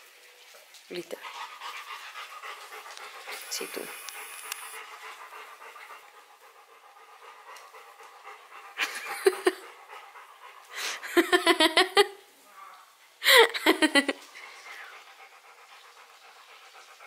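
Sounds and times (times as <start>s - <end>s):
dog panting: 1.1s - 11.9s, 13.8s - 17.0s.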